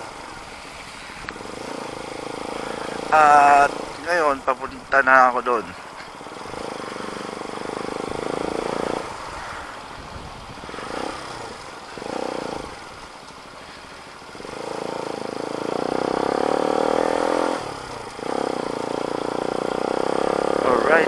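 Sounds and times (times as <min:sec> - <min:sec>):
motorcycle exhaust: 0:01.1 - 0:04.4, 0:06.1 - 0:13.1, 0:13.8 - 0:21.0.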